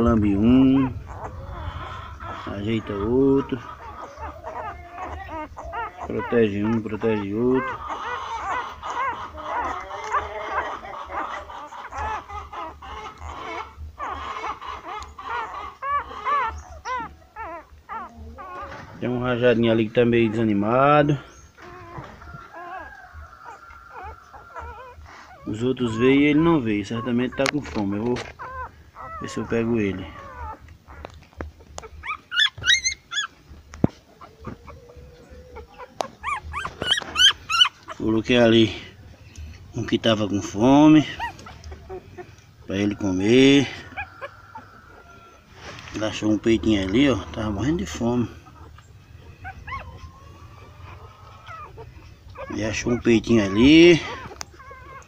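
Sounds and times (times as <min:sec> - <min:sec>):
puppies squeaking and whimpering: 0:00.0 - 0:55.0.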